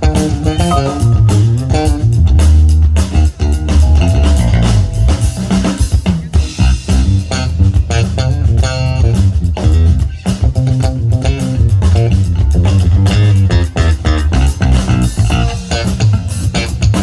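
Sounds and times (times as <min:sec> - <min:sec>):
drum kit: 0:00.0 - 0:17.0
electric bass line: 0:00.0 - 0:17.0
electric guitar: 0:00.0 - 0:17.0.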